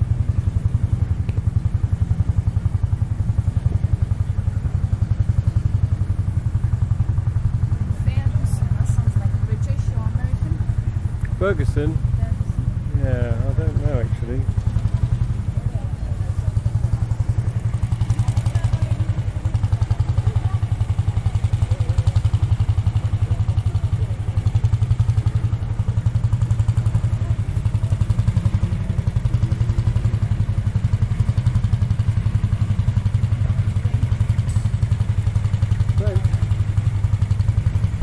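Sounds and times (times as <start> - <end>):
tractor engine chugging: 0.0 - 38.0.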